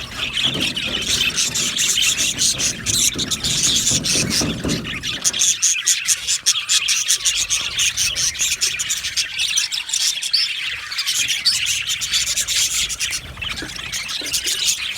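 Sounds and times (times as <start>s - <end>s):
budgerigars chirping: 0.0s - 14.9s.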